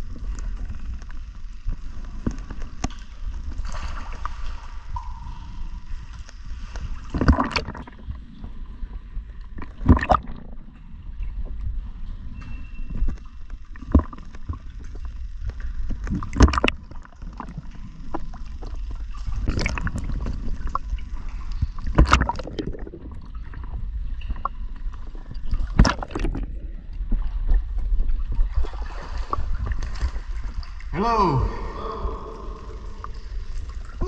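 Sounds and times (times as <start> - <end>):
low steady rumble: 0.0 - 34.0
water sloshing and gurgling: 0.0 - 34.0.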